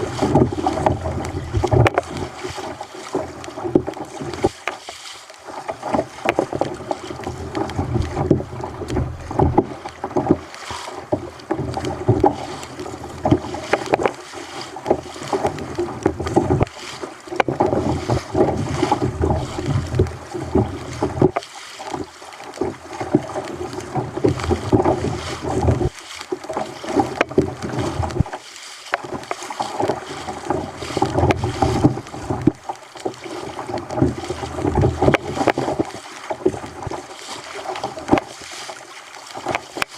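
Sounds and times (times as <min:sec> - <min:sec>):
water splashing against kayak hull: 0:00.0 - 0:39.9.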